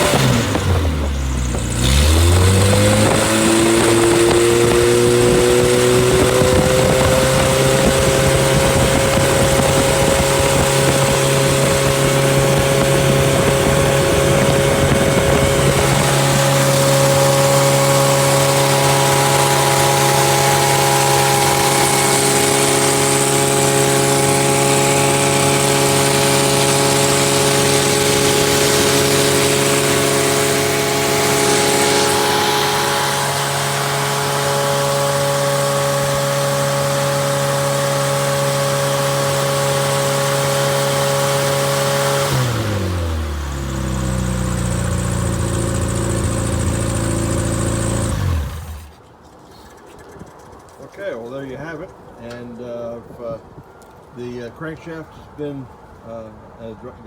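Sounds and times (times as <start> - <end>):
loud unmuffled engine running: 0.0 - 49.0.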